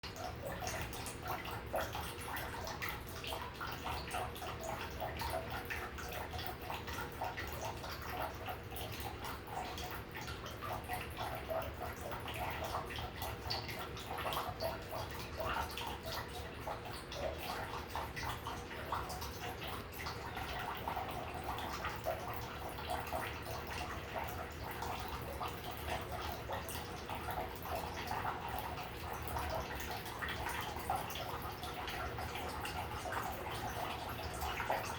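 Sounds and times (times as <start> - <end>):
steady pump hum: 0.0 - 34.9
water trickling and splashing: 0.0 - 34.9.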